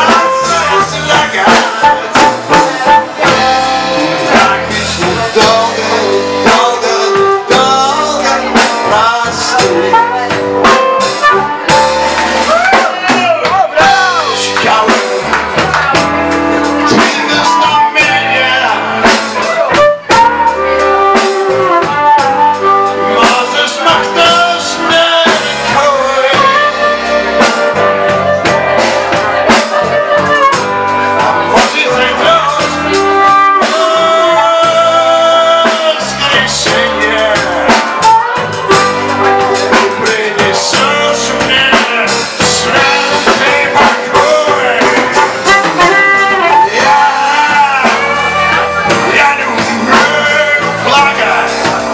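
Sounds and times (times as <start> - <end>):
drum kit: 0.0 - 51.9
electric guitars: 0.0 - 51.9
harmonica bending notes: 0.0 - 51.9.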